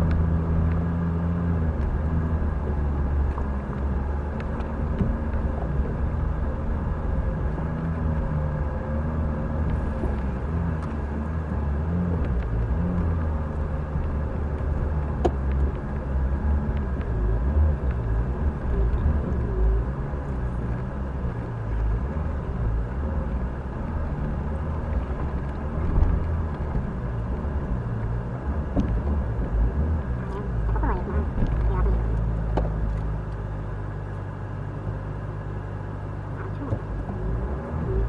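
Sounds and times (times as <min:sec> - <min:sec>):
off-road vehicle engine low revs: 0:00.0 - 0:38.0.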